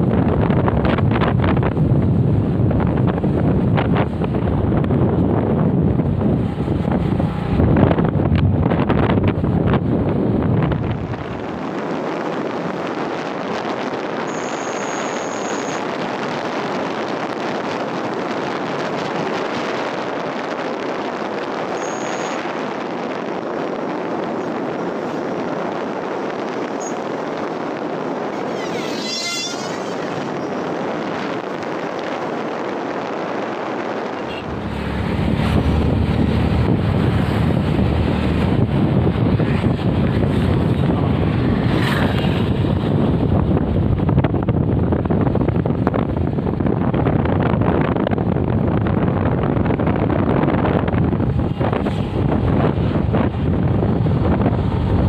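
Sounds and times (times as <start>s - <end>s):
motorcycle road noise: 0.0s - 55.0s
wind rushing over microphone: 0.0s - 55.0s.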